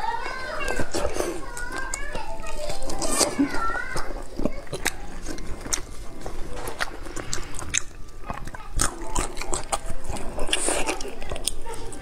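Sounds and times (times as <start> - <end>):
wet chewing and lip smacks: 0.6 - 12.0.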